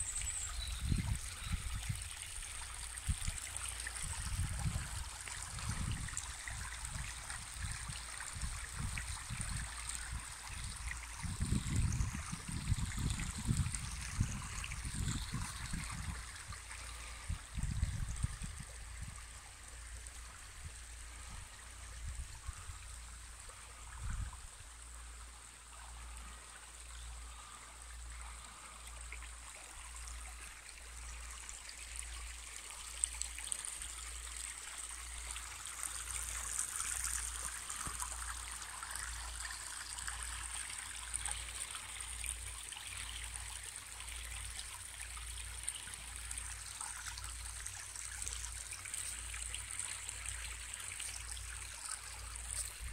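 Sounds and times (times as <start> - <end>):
stream babbling over stones: 0.0 - 52.9.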